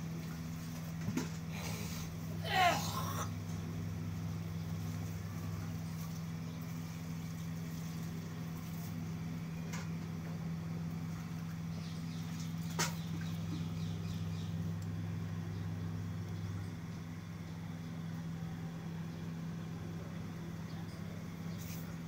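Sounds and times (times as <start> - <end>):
low electrical motor hum: 0.0 - 22.0.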